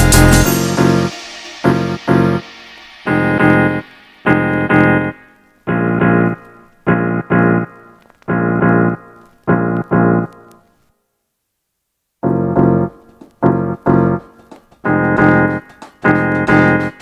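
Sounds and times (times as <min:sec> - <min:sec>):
keyboard chords: 0:00.0 - 0:10.6, 0:12.2 - 0:17.0.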